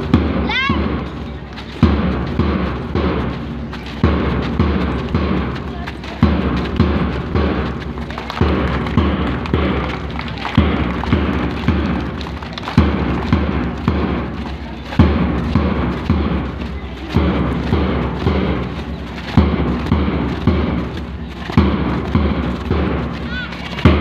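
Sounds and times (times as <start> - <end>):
big drum beating a slow march: 0.0 - 24.0
low musical drone: 0.0 - 24.0.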